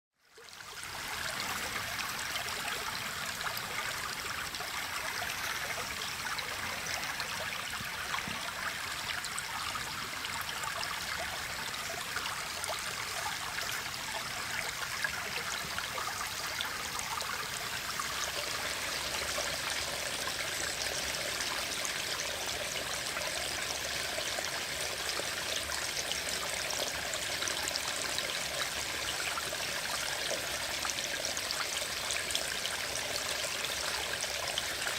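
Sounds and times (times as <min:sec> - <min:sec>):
stream trickling over rocks: 0:00.2 - 0:34.9.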